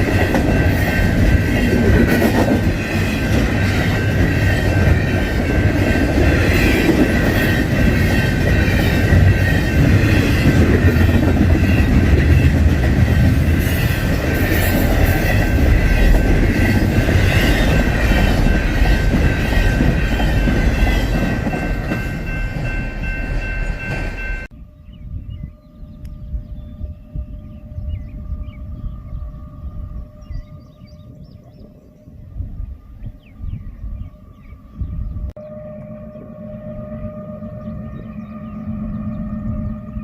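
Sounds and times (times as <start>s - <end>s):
freight train rumbling: 0.0s - 40.0s.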